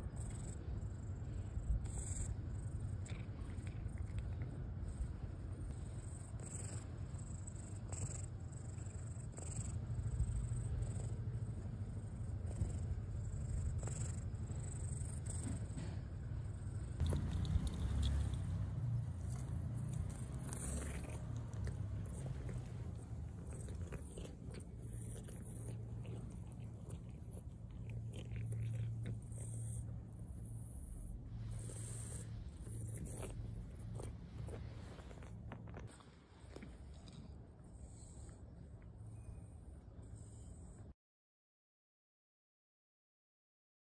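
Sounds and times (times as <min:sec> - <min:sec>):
cat purring: 0:00.0 - 0:40.8
low steady hum: 0:00.0 - 0:40.9.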